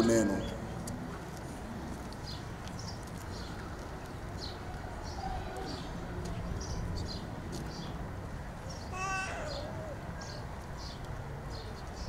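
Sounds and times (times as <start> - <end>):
murmur of voices praying: 0.0 - 11.8
birds chirping: 0.0 - 12.0.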